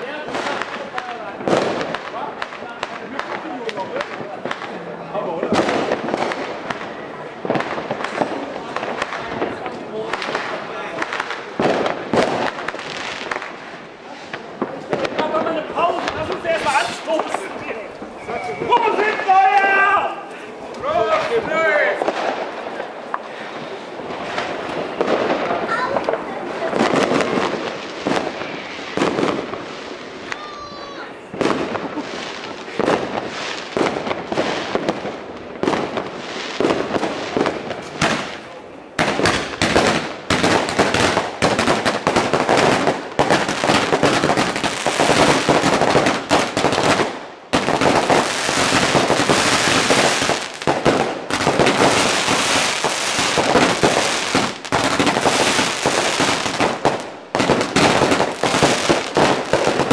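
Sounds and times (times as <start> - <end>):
fireworks bangs and cracks: 0.0 - 59.9
fireworks crackling barrage: 0.0 - 59.9.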